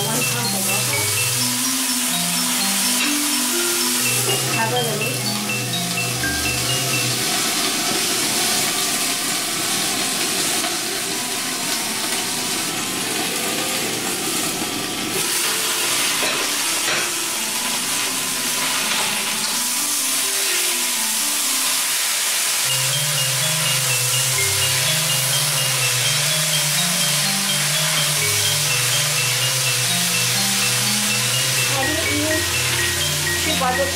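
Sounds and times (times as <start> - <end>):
greens sizzling in a pan: 0.0 - 33.9.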